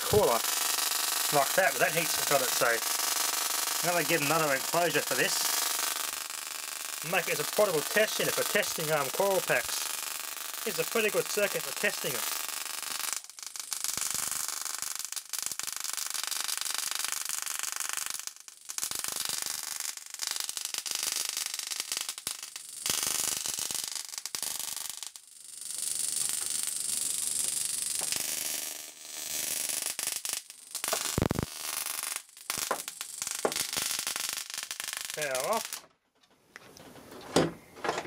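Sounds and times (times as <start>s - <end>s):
electric sparks crackling: 0.0s - 35.9s.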